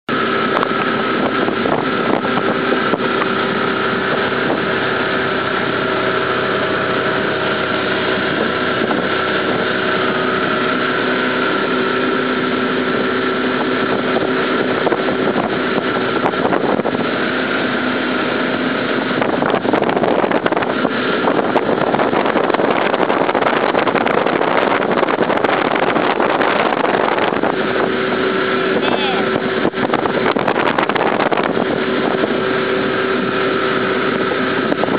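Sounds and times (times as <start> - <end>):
motorboat engine humming: 0.0 - 34.9
wind: 0.0 - 34.9.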